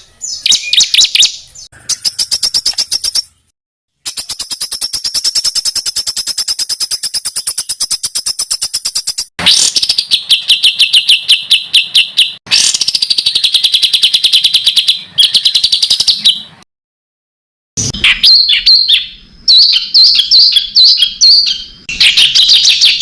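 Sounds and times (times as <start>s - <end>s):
songbird rapid chirps: 0.0s - 16.6s, 17.8s - 23.0s
varied birdsong: 0.0s - 16.6s, 17.8s - 23.0s.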